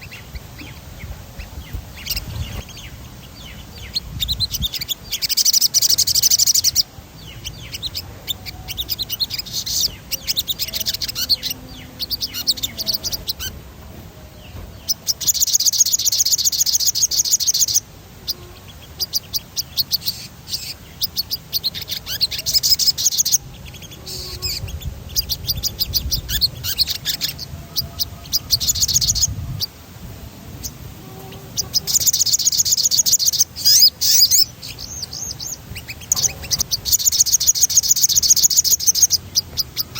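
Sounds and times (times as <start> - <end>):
bird chirping: 0.0 - 39.9
bird rolling trills: 0.0 - 39.9.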